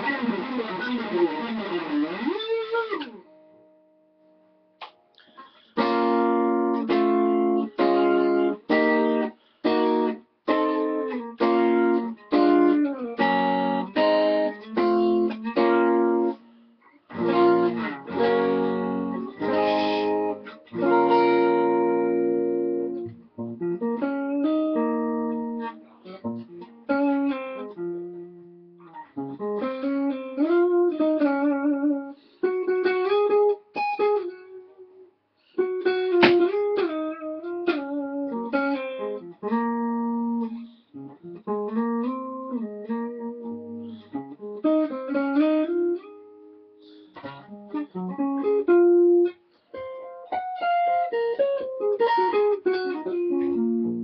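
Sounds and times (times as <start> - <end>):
electric guitar lead melody: 0.0 - 4.0, 4.9 - 54.0.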